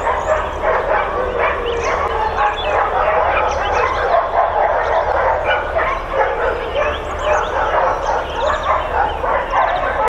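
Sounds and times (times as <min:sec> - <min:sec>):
many dogs barking: 0:00.0 - 0:10.0.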